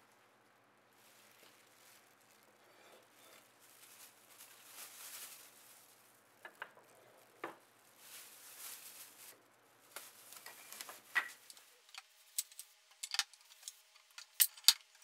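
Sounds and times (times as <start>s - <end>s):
soft scraping rustle: 0.0s - 12.4s
plastic bag rustling: 0.9s - 15.0s.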